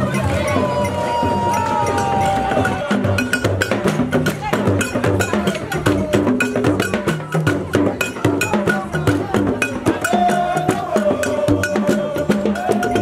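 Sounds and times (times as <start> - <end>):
frame drums playing fast rhythm: 0.0 - 13.0.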